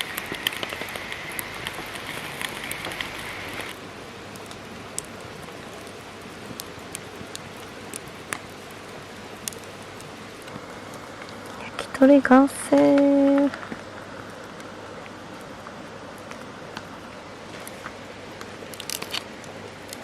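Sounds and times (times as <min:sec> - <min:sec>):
steady hiss of grilling: 0:00.0 - 0:20.0
wood fire crackling and popping: 0:00.0 - 0:20.0.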